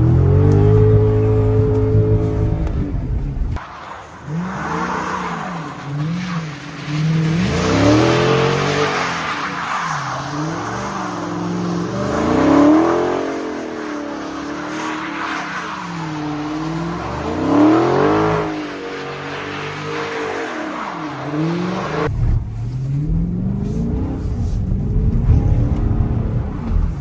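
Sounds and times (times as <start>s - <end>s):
car engine revving: 0.0s - 27.0s
tyres spinning on snow: 0.0s - 27.0s.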